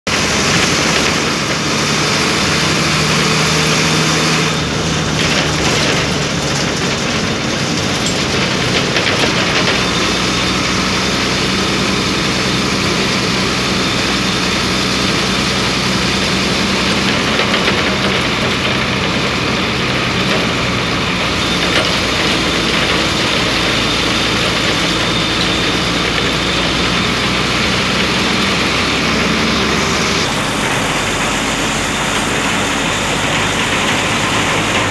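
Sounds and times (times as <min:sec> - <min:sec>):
bus diesel engine droning: 0:00.0 - 0:34.9.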